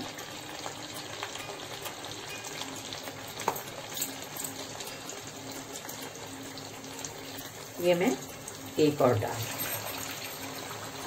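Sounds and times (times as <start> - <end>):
deep-frying sizzle with crackles: 0.0 - 11.0.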